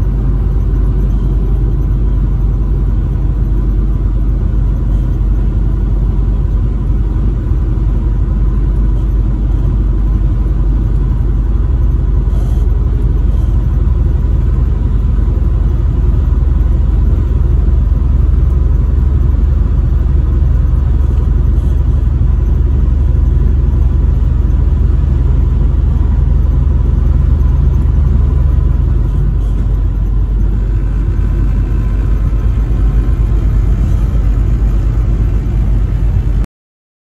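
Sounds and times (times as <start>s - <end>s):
road and engine rumble in vehicle: 0.0s - 36.5s.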